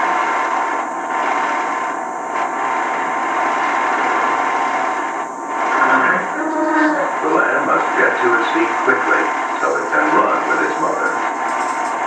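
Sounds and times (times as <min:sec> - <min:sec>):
television speaker hiss: 0:00.0 - 0:12.0.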